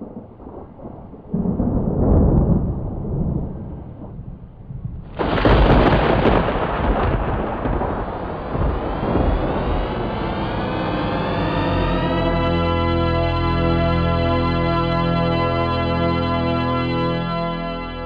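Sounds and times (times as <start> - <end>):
deep thunder-like rumbling: 0.0 - 15.6.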